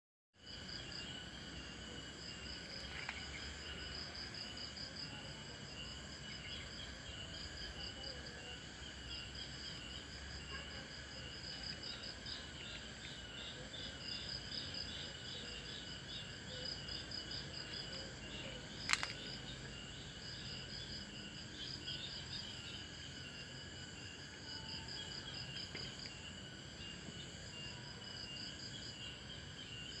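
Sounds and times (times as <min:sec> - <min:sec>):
insects chirping: 0:00.4 - 0:30.0.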